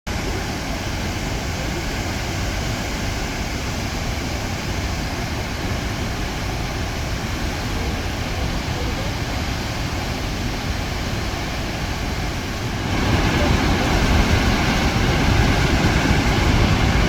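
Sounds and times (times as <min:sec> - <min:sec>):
waterfall roaring: 0:00.1 - 0:17.0.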